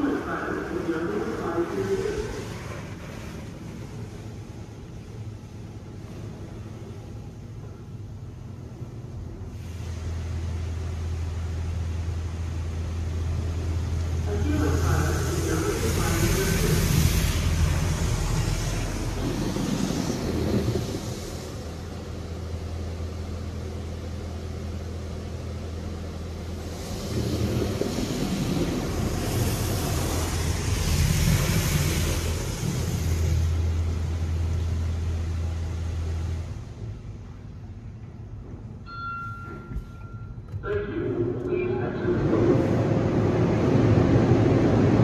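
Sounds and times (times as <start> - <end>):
water jets spraying car: 0.0 - 37.9, 42.0 - 45.0
low machine hum: 0.0 - 45.0.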